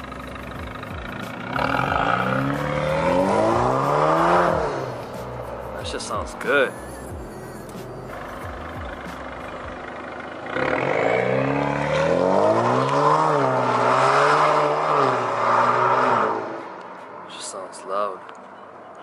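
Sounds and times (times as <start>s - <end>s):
car exhaust accelerating: 0.0s - 17.2s.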